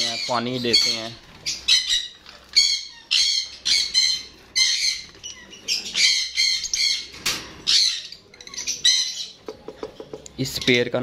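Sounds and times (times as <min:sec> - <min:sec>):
parrots squawking: 0:00.0 - 0:09.6.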